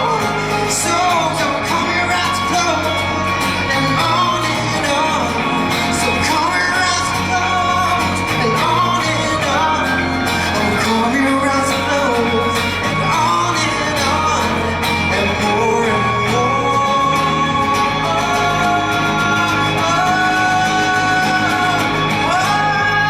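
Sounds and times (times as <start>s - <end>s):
bass and drums: 0.0s - 23.0s
person singing: 0.0s - 23.0s.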